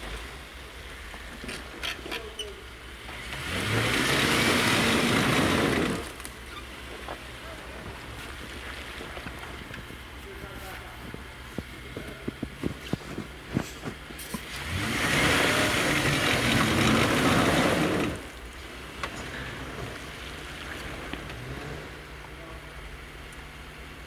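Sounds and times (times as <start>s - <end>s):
car engine revving and idling: 0.0s - 24.0s.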